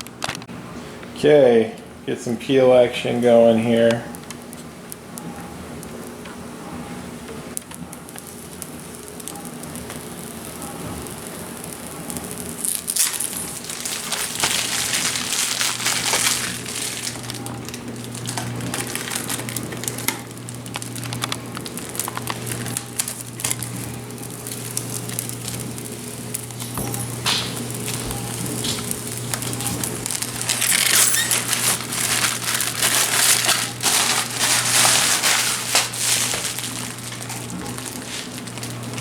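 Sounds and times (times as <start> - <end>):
plastic film peeling and crinkling: 7.6 - 39.0.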